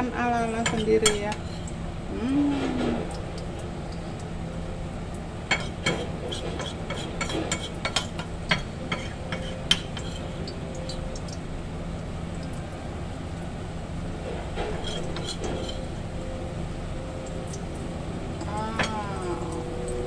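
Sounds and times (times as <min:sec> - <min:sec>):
food frying in hot oil: 0:00.0 - 0:20.0.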